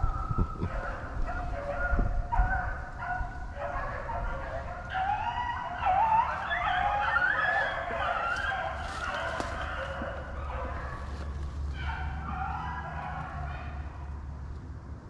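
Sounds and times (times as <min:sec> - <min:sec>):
hounds baying: 0:00.0 - 0:14.4.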